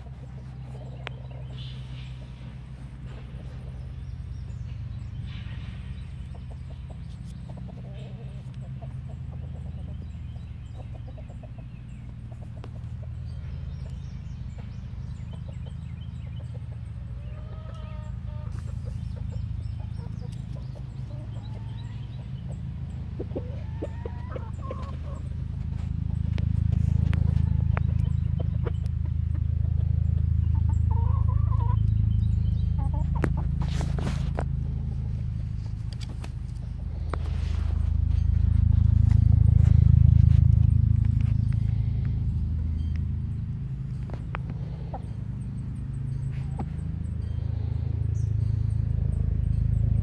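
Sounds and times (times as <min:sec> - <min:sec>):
hens clucking: 0:00.0 - 0:40.6, 0:41.3 - 0:47.3.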